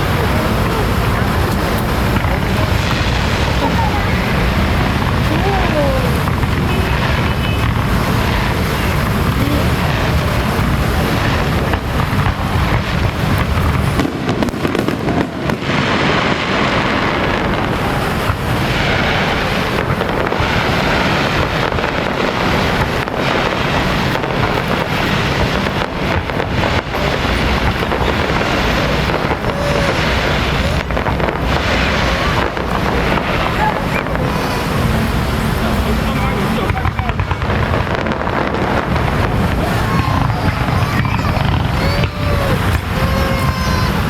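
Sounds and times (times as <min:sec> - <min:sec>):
firecrackers crackling: 0:00.0 - 0:44.0.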